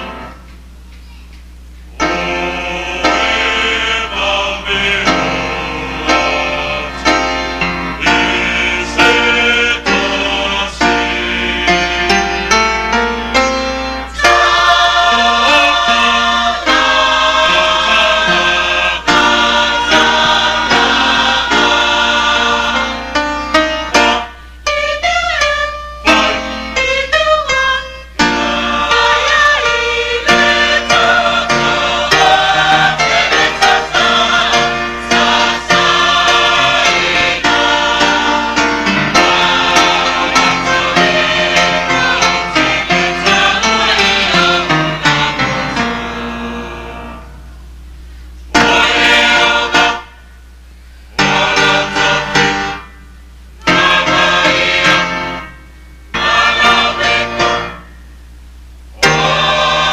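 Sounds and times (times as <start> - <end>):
mixed choir singing in parts: 2.0 - 47.5, 48.5 - 50.3, 51.1 - 53.0, 53.6 - 57.9, 59.0 - 59.9.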